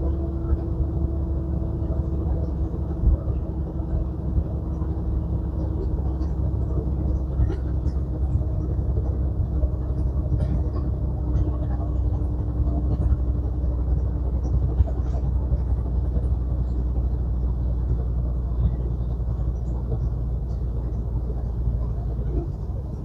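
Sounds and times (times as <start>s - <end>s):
road noise: 0.0s - 23.0s
truck diesel engine rumble: 0.0s - 23.0s.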